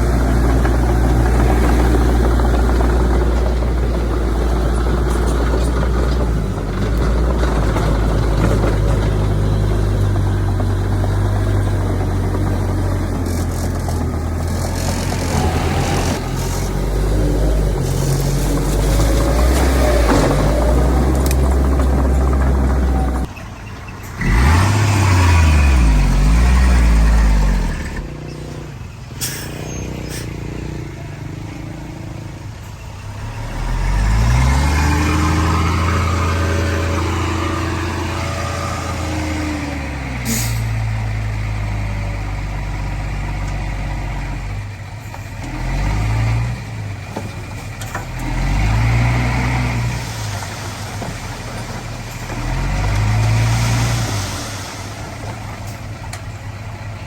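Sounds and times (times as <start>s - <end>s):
heavy diesel engines revving: 0.0s - 57.0s.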